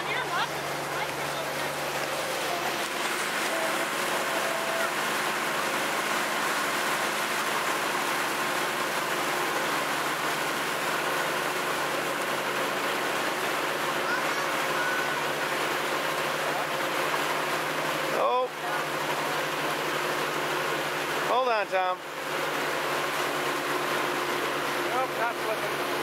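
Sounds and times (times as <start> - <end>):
motorboat engine drone: 0.0 - 26.0
rushing water: 0.0 - 26.0.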